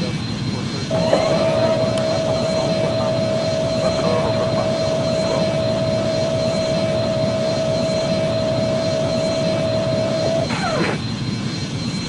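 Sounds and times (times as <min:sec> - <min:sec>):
radio hiss: 0:00.0 - 0:11.0
steady whistle tone: 0:00.0 - 0:12.0.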